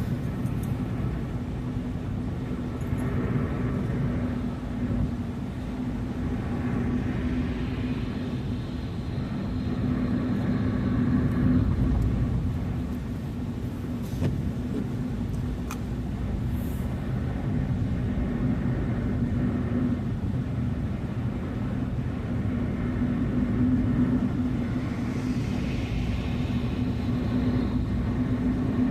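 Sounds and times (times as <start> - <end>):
car engine and tyre rumble: 0.0 - 28.9
constant low hum: 0.0 - 28.9.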